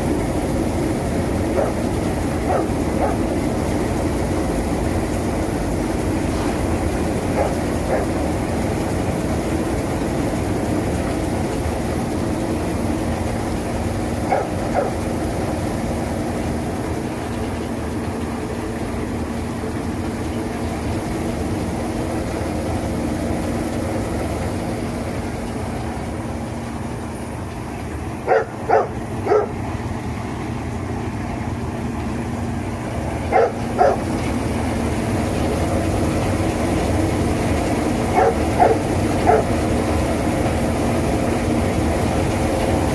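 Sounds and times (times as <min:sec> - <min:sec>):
peeling machine humming: 0:00.0 - 0:42.9.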